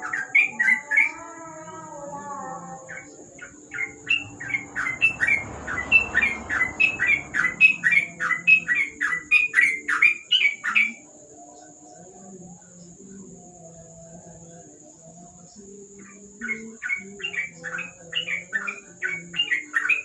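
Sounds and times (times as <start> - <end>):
faint high whine: 0.0 - 18.1.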